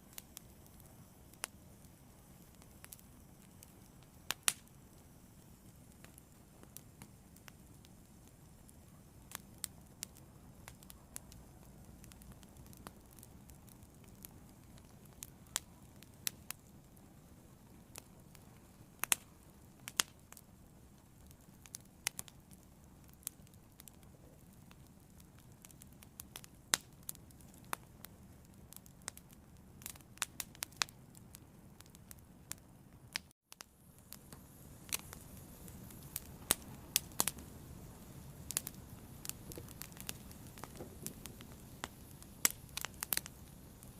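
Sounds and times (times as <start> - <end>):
fire crackling: 0.0 - 43.9.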